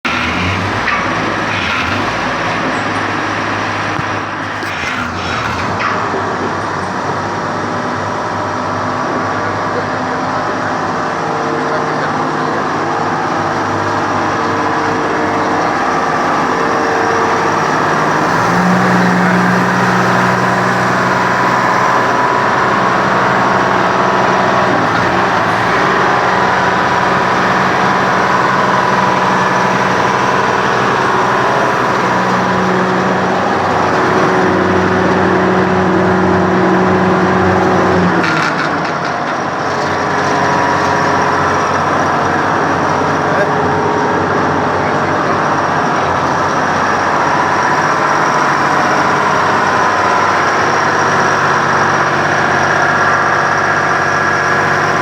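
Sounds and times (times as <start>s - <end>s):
drill rig engine running: 0.0s - 55.0s.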